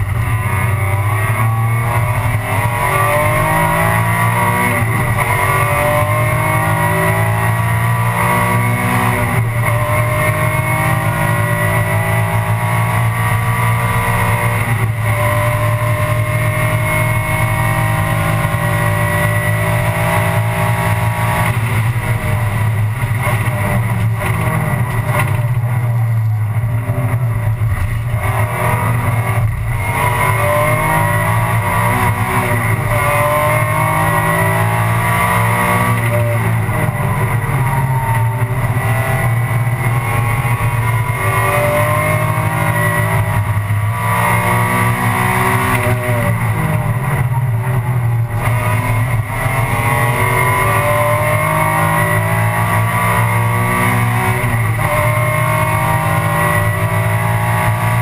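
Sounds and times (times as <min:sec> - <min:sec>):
race car engine revving: 0:00.0 - 0:58.0
road and wind noise: 0:00.0 - 0:58.0.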